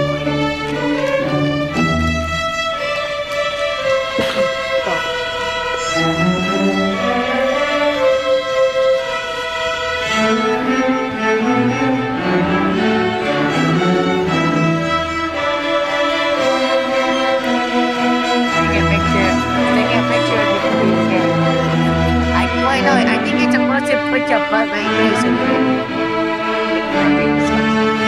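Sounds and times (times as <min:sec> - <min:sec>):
string ensemble music: 0:00.0 - 0:28.0.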